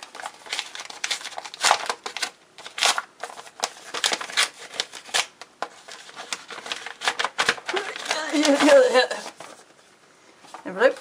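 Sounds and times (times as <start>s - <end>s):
paper envelope tearing: 0.0s - 9.6s.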